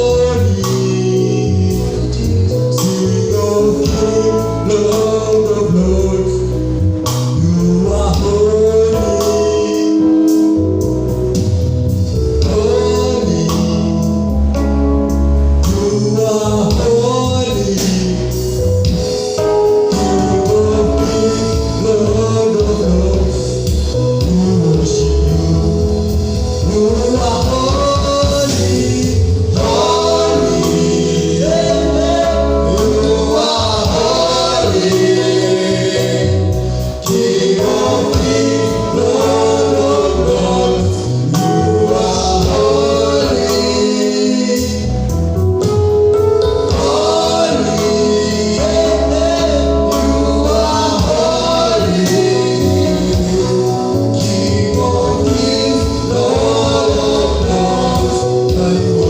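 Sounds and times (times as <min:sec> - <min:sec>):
choir singing gospel song: 0:00.0 - 0:59.0
deep bass line: 0:00.0 - 0:59.0.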